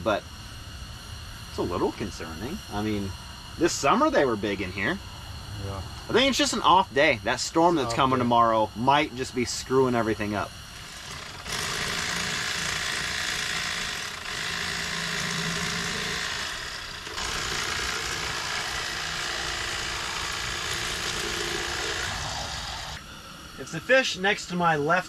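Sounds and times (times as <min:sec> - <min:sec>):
electric fillet knife buzzing: 0:00.0 - 0:24.4.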